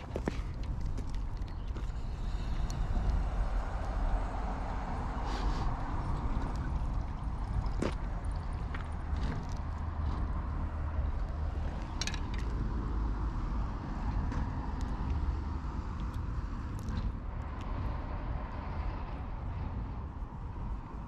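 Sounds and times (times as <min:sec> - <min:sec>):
distant road traffic rumble: 0:00.0 - 0:21.0.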